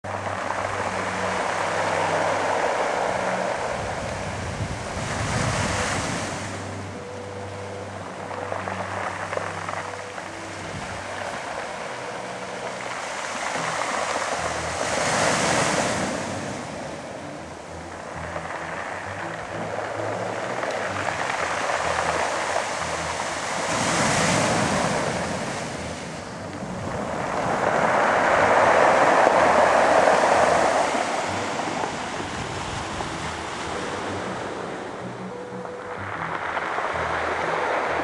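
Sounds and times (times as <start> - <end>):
waves breaking: 0.0 - 38.0
surf washing onto pebble beach: 0.1 - 38.0.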